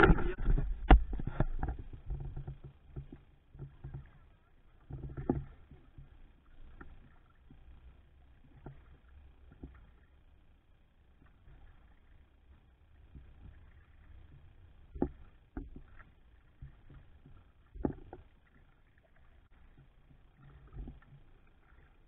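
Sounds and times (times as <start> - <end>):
paddle splashes and drips: 0.0 - 22.0.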